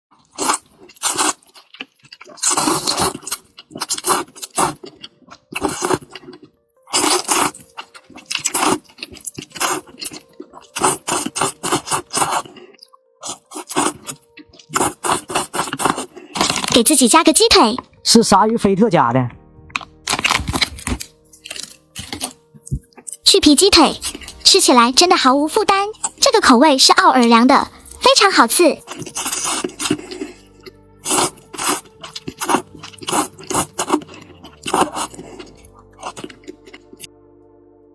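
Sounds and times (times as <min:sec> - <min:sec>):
crunching and chewing: 0:00.1 - 0:16.9, 0:19.8 - 0:23.3, 0:23.9 - 0:24.4, 0:25.3 - 0:28.1, 0:28.7 - 0:37.1
soft background music: 0:00.1 - 0:37.9.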